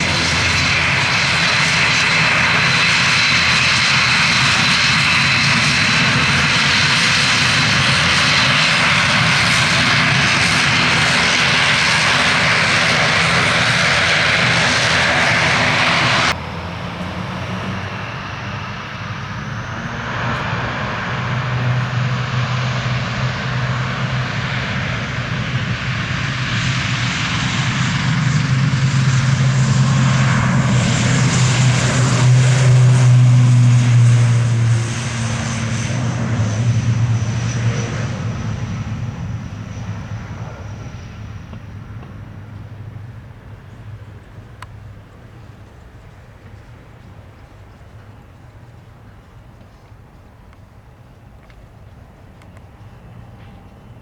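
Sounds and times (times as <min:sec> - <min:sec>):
turboprop engines whining: 0:00.0 - 0:54.0.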